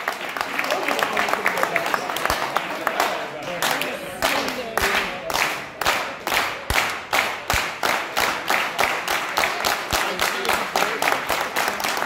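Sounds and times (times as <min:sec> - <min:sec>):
crowd clapping in unison: 0:00.0 - 0:12.0.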